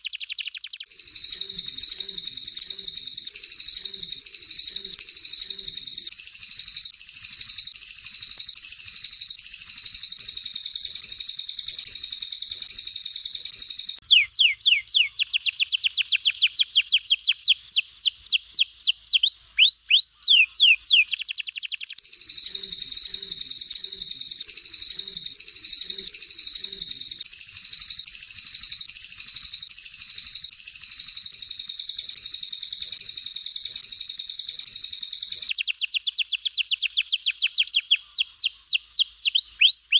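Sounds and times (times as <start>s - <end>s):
high warbling birdsong: 0.0s - 35.9s, 36.9s - 39.9s
repeated sweeping whistled bird notes: 0.0s - 39.9s.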